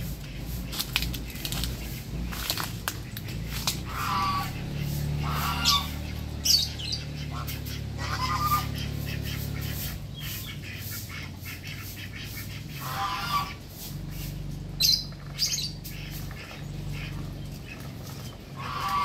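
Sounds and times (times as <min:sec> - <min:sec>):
poultry squawking: 0:00.0 - 0:19.0.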